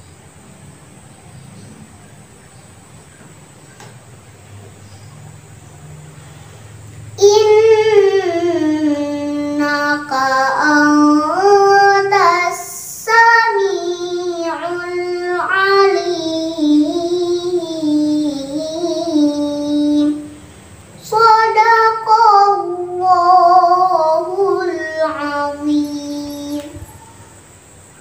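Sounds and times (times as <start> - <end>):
girl reciting melodically: 4.8 - 27.9.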